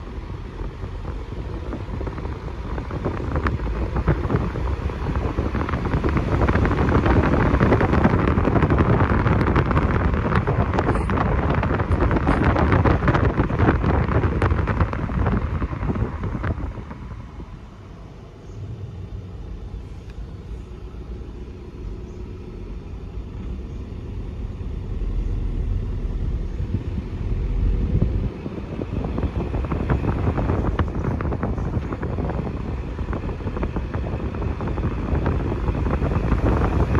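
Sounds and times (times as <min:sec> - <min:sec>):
car road and wind noise: 0:00.0 - 0:36.9.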